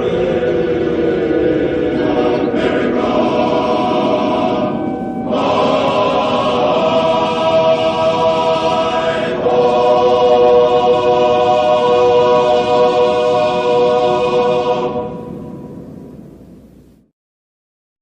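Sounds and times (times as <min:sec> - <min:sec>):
choir singing sustained chords: 0:00.0 - 0:16.6.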